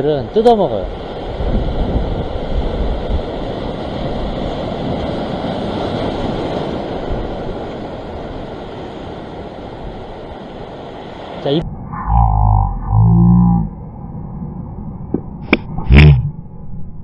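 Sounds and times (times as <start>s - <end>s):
wind rumbling on microphone: 0.7s - 17.0s.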